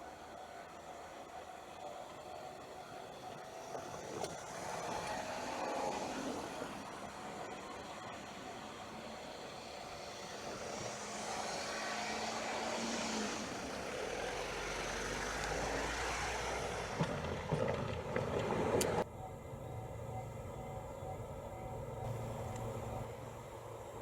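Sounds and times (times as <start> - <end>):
train running past: 0.0 - 24.0.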